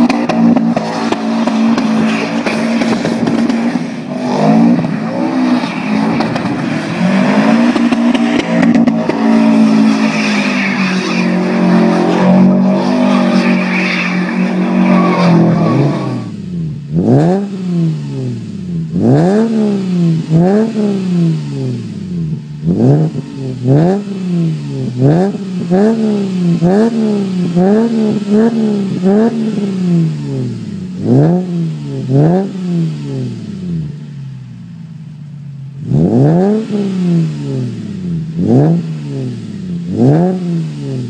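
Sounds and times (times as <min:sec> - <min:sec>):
car engine at high revs: 0:00.0 - 0:41.0
car engine revving in blips: 0:00.0 - 0:41.0.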